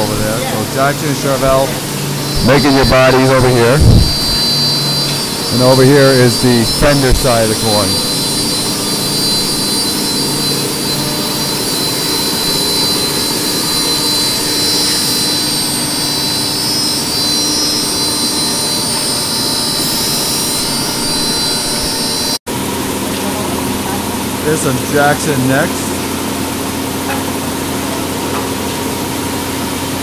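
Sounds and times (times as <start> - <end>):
high whine: 0.0 - 28.5
wood shop machinery running: 0.0 - 30.0.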